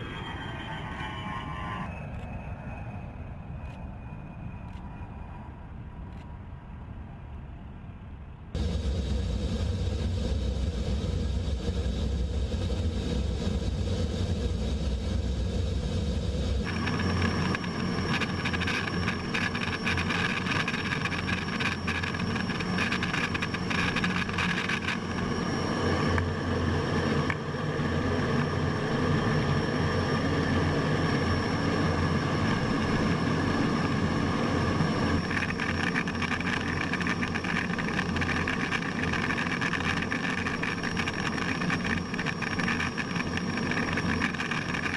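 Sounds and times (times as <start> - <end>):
thin high whine: 0.0 - 5.8, 8.6 - 44.9
jet engine noise: 0.0 - 44.9.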